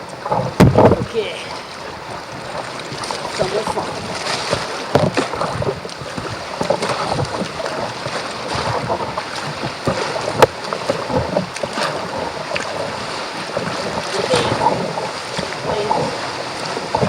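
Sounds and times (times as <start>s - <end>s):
water splashing around kayak: 0.0s - 17.0s.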